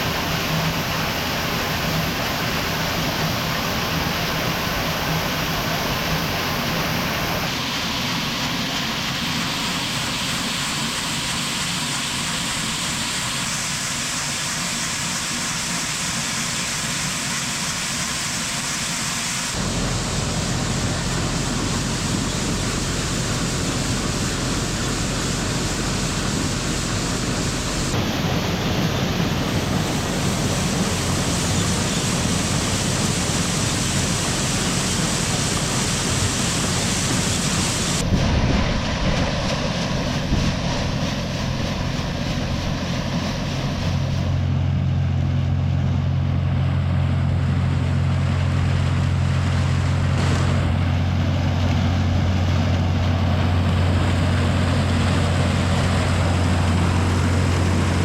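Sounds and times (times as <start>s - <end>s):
loud rushing noise: 0.0s - 16.2s, 18.0s - 45.2s, 49.5s - 58.0s
heavy machinery engine running: 0.0s - 18.7s, 19.3s - 58.0s.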